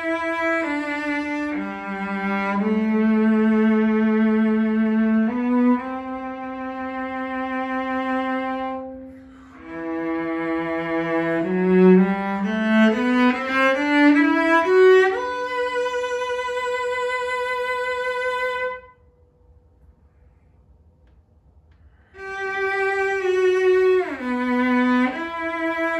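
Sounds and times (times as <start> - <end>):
solo cello bowed: 0.0 - 19.1, 22.1 - 25.9.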